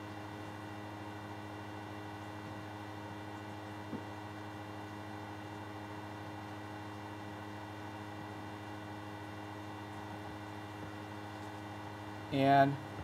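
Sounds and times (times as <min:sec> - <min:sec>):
buzzy electrical mains hum: 0:00.0 - 0:13.0.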